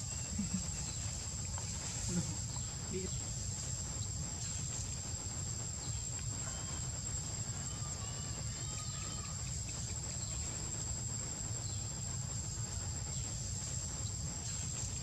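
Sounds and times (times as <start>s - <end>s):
faint chirping calls: 0.0s - 15.0s
insects droning: 0.0s - 15.0s.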